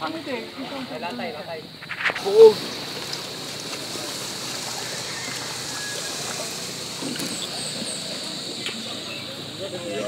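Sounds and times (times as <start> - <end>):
water washing against wooden boat: 0.0 - 10.0.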